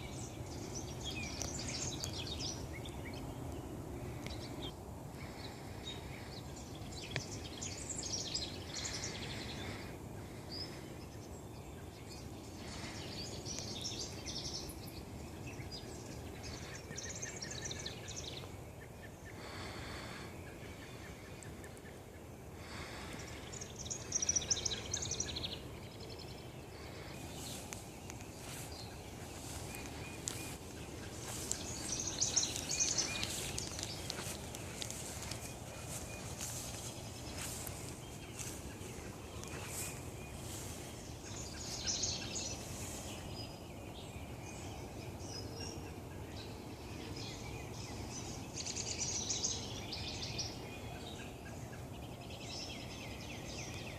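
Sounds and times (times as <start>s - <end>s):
songbirds chirping and singing: 0.0s - 53.9s.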